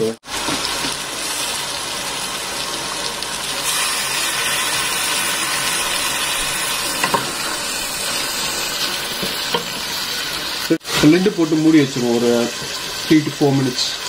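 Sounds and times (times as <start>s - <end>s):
sauce sizzling in a metal pot: 0.0s - 14.0s.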